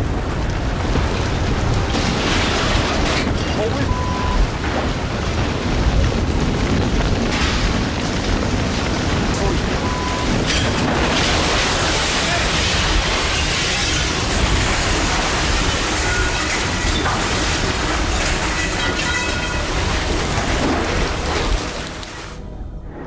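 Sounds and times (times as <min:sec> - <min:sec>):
driving rain: 0:00.0 - 0:22.4
tornado wind roaring: 0:00.0 - 0:23.0.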